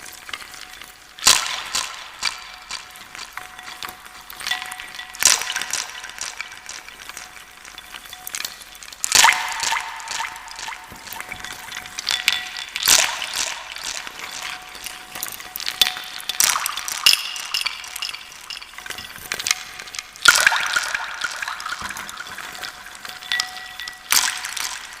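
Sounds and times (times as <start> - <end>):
wooden pieces clattering in container: 2.2 - 25.0.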